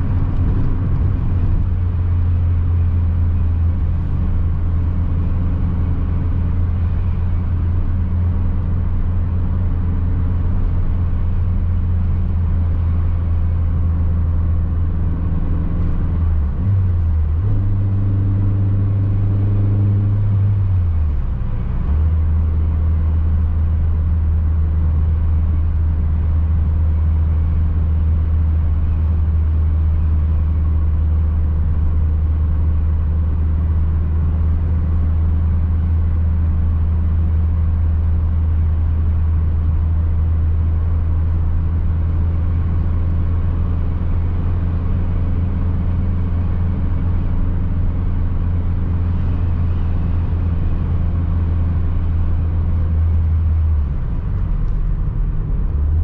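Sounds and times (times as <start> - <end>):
car engine drone inside cabin: 0.0 - 56.0
road noise: 0.0 - 56.0.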